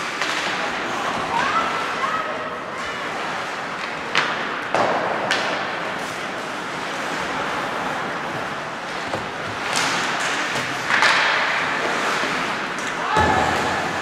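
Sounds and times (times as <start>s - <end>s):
hockey sticks and puck clacking: 0.0s - 2.0s, 3.0s - 14.0s
skates scraping ice: 0.0s - 14.0s.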